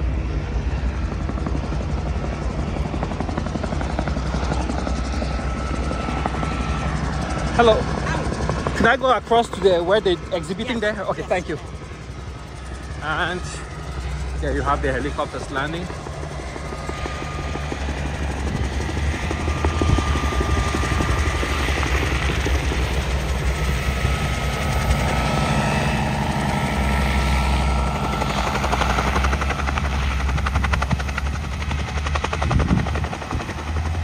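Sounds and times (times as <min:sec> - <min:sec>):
helicopter rotor and engine: 0:00.0 - 0:34.0.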